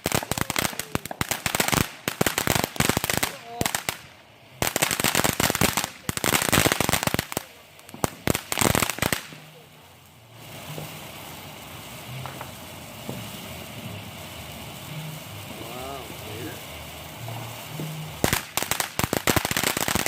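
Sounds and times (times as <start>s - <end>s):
fireworks crackling pops: 0.0s - 20.0s
steady background noise: 0.0s - 20.0s.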